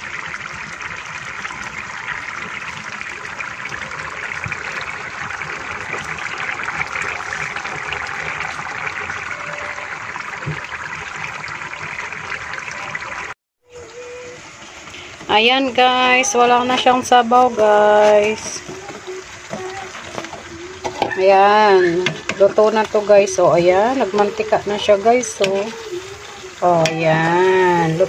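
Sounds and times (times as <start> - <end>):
pot bubbling at a simmer: 0.0 - 28.0.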